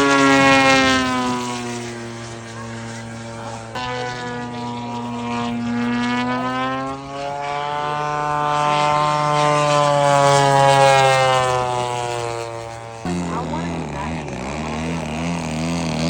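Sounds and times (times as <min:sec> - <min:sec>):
model airplane engine passing: 0:00.0 - 0:16.0.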